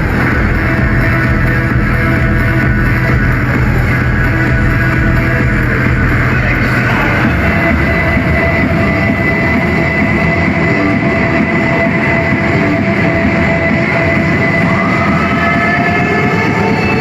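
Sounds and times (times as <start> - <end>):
crowd noise: 0.0 - 17.0
electronic dance music: 0.0 - 17.0.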